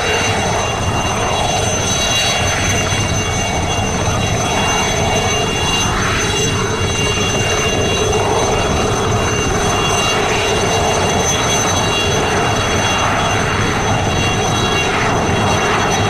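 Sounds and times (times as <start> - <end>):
helicopter rotors rushing: 0.0 - 16.0
helicopter turbine whine: 0.0 - 16.0.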